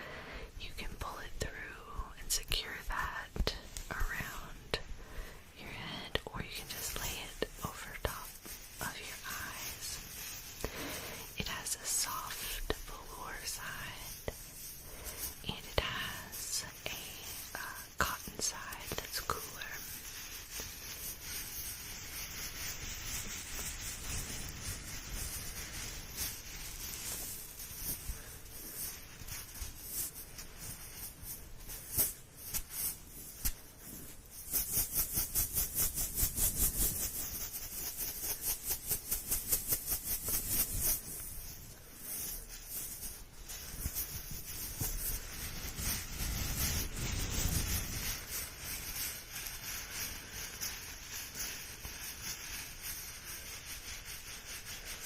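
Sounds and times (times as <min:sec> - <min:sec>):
close rubbing and scratching: 0:00.6 - 0:55.0.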